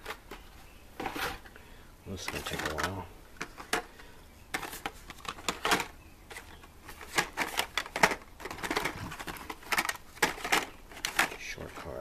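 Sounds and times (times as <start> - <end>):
plastic packs clicking and clattering: 2.2 - 12.0.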